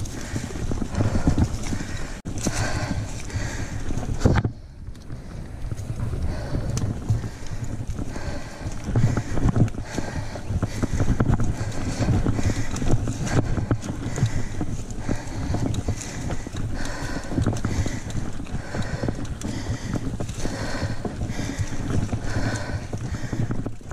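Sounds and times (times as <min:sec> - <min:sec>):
mountain bike rattling: 0:00.0 - 0:23.9
wind rumble on microphone: 0:00.0 - 0:23.9.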